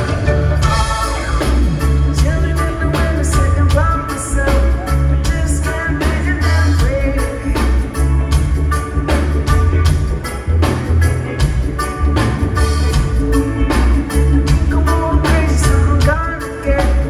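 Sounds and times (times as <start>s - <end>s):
bass line: 0.0s - 17.0s
drums: 0.0s - 17.0s
electric guitar: 0.0s - 17.0s
keyboard: 0.0s - 17.0s.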